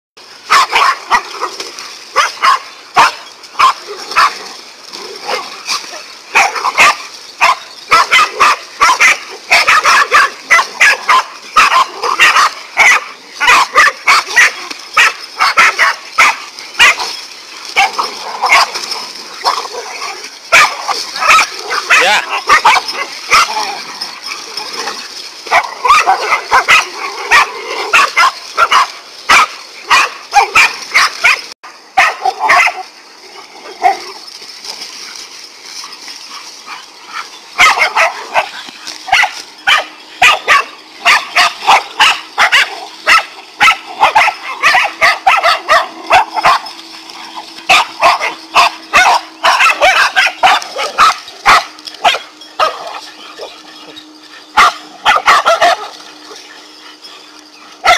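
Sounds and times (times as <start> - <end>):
dogs barking: 0.3 - 57.9.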